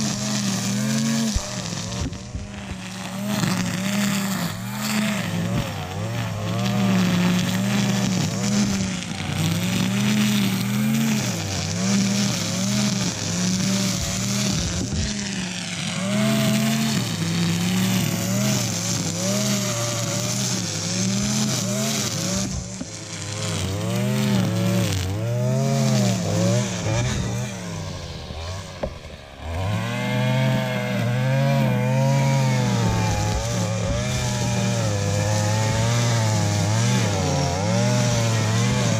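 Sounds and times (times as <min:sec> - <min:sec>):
string trimmer engine revving: 0:00.0 - 0:38.9.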